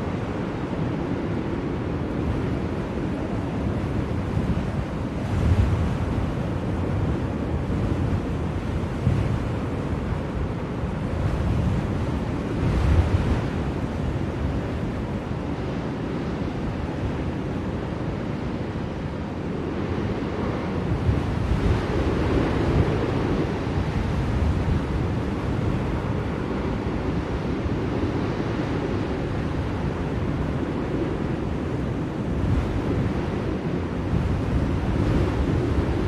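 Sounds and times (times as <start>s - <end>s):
blizzard wind blowing: 0.0s - 36.0s.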